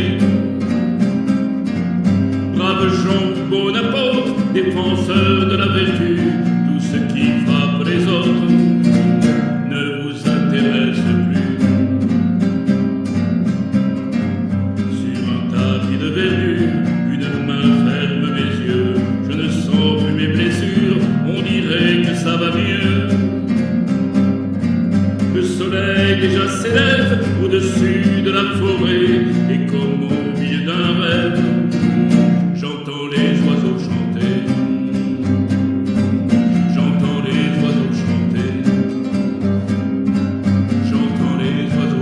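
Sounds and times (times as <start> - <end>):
acoustic guitar music: 0.0 - 42.0.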